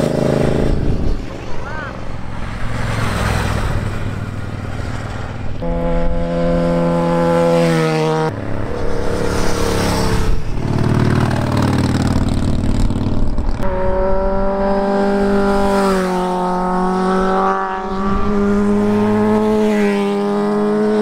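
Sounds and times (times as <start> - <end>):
motorcycles passing: 0.0 - 21.0.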